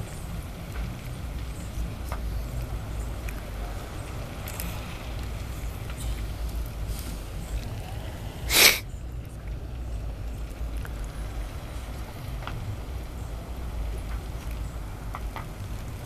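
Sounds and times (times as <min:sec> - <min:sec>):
bonfire rumbling: 0:00.0 - 0:16.0
fire crackles: 0:00.0 - 0:16.0.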